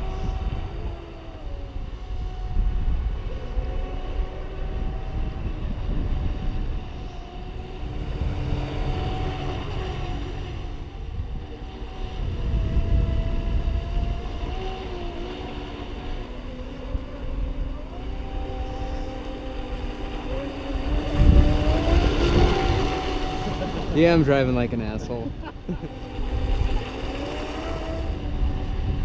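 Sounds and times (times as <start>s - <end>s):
rc boat motor whine: 0.0s - 29.0s.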